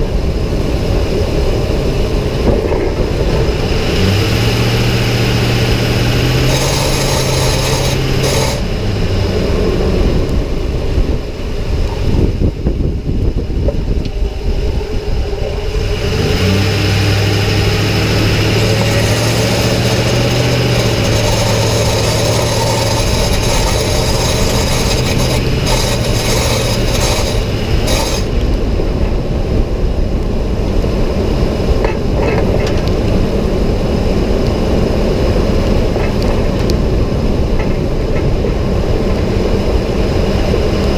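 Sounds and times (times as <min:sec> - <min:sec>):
truck low drone: 0:00.0 - 0:40.9.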